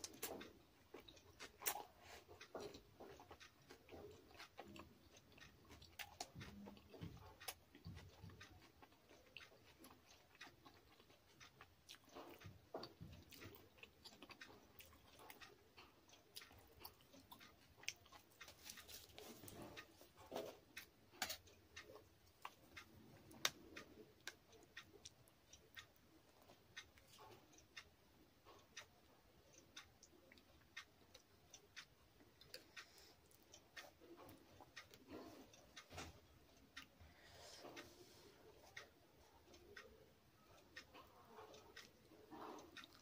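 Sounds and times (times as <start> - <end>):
chewing with wet mouth clicks: 0.0 - 35.9, 38.5 - 43.0.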